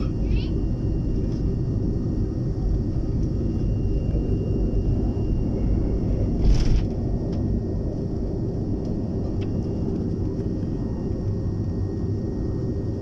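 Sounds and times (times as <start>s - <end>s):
aircraft cabin engine rumble: 0.0s - 13.0s
faint high whine: 0.0s - 13.0s.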